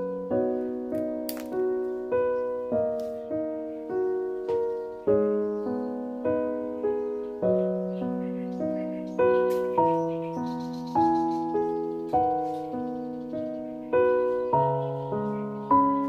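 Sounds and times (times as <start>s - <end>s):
gentle solo piano music: 0.0s - 16.0s.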